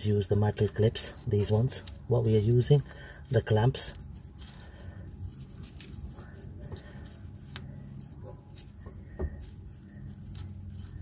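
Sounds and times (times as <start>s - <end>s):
gloves rustling: 0.0s - 11.0s.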